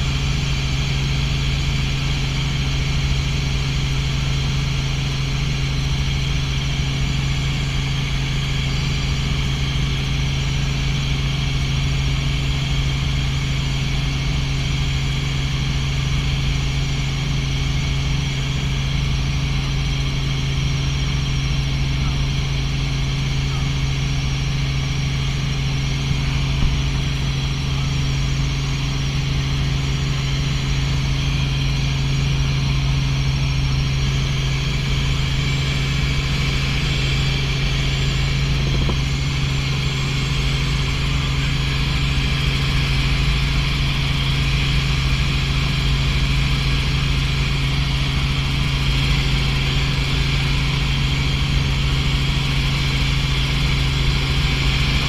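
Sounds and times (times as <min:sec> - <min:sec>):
helicopter engine and rotors drone: 0:00.0 - 0:55.0.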